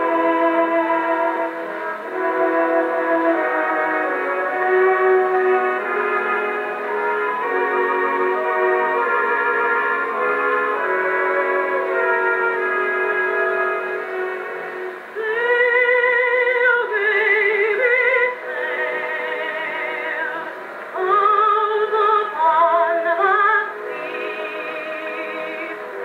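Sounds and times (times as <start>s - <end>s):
instrumental accompaniment: 0.0s - 26.0s
woman singing with vibrato: 0.0s - 26.0s.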